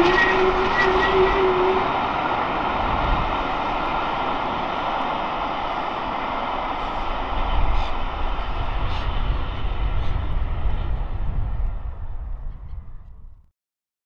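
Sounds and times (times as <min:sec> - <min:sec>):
wind rumble on microphone: 0:00.0 - 0:04.7, 0:06.8 - 0:13.5
train wheels rolling on rails: 0:00.0 - 0:13.3.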